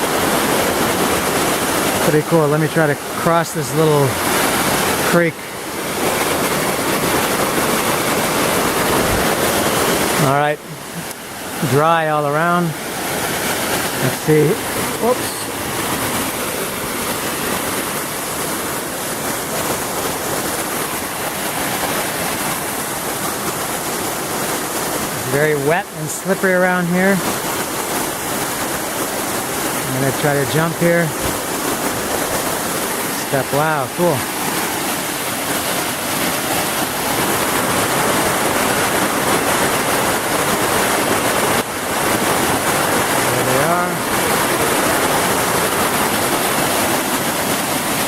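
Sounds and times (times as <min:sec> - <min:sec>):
creek flowing over rocks: 0:00.0 - 0:48.0
small waterfalls rushing: 0:00.0 - 0:48.0.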